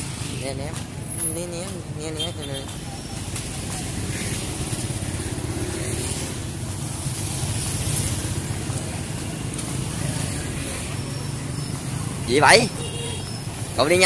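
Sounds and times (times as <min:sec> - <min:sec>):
motorbikes passing: 0:00.0 - 0:14.0
road noise hiss: 0:00.0 - 0:14.0.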